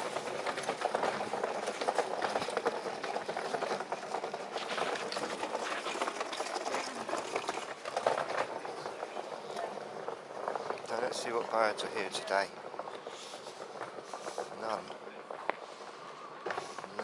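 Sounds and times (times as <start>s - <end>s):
suitcase wheels rattling: 0.0s - 17.0s.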